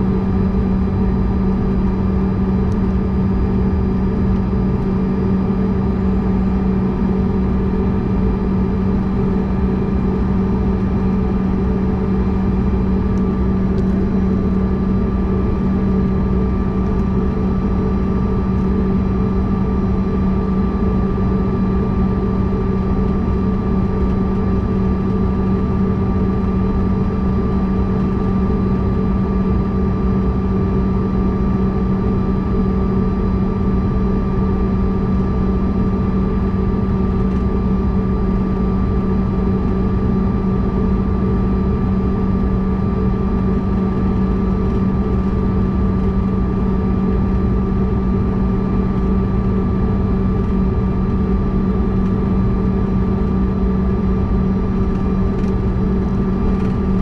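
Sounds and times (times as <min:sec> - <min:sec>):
constant high whine: 0:00.0 - 0:57.0.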